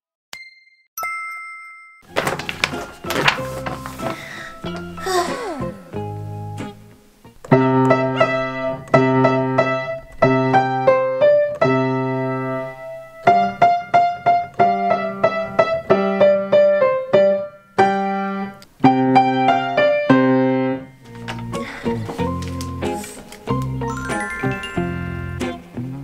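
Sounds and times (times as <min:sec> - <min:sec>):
grand piano tune: 0:02.1 - 0:26.0.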